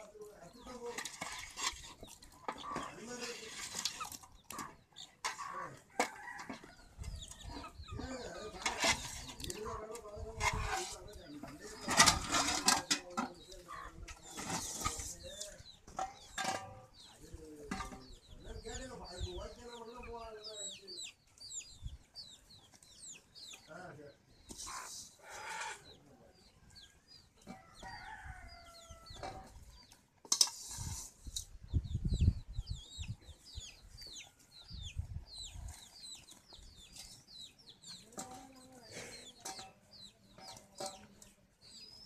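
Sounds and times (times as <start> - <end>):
chickens chirping: 0.0 - 42.0
chickens clucking: 0.0 - 42.0.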